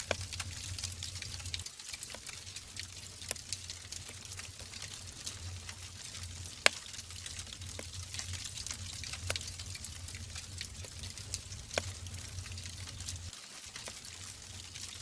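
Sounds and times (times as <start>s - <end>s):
logs crackling and popping: 0.0s - 15.0s
low rumble of flame: 0.0s - 15.0s.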